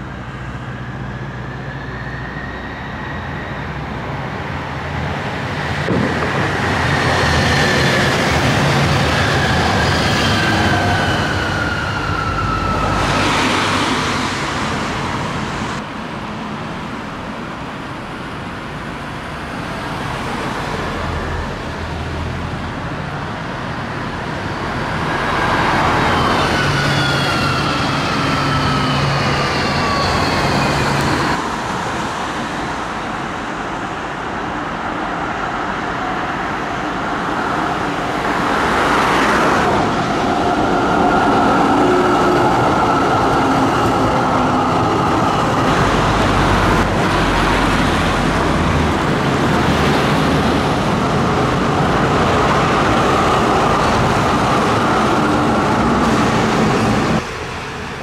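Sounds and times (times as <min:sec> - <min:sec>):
electric tram whine: 0:00.0 - 0:58.0
road traffic noise: 0:00.0 - 0:58.0.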